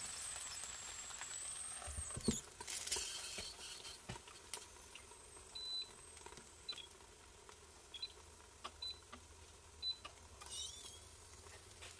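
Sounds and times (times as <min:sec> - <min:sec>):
faint sizzling of frying potatoes: 0:00.0 - 0:11.9.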